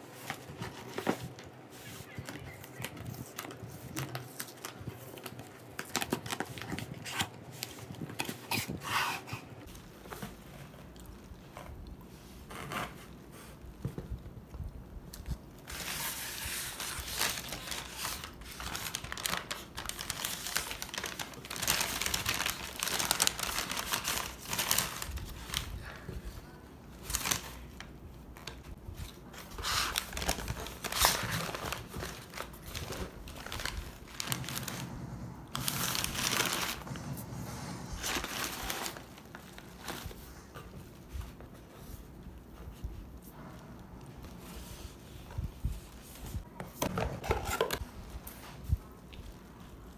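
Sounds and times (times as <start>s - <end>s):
paper crinkling and rustling: 0.0s - 14.1s, 15.1s - 37.2s, 37.9s - 43.4s.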